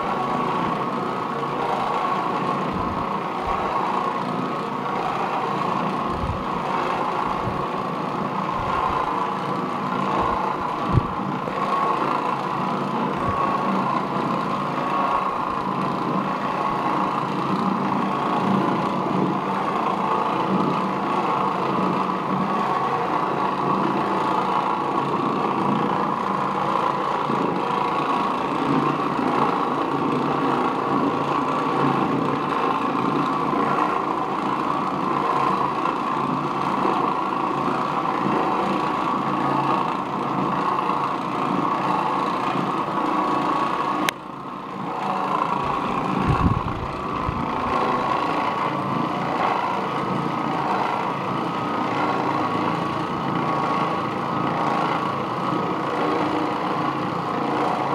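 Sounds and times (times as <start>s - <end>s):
floor machine scrubbing carpet: 0.0s - 57.9s.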